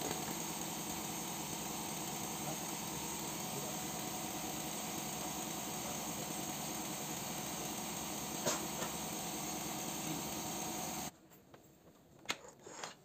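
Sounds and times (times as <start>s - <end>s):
machine drone: 0.0s - 11.1s.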